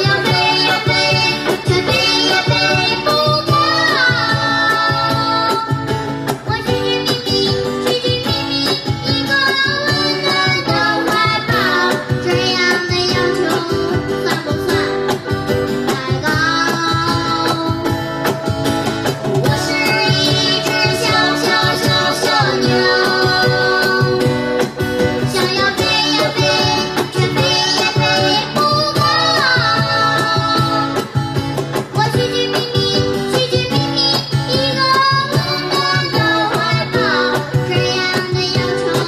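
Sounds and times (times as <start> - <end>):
child singing: 0.0 - 5.8, 6.4 - 18.0, 19.4 - 24.4, 25.2 - 31.1, 31.9 - 39.0
acoustic guitar strumming: 0.0 - 39.0
cajon beat: 0.0 - 39.0.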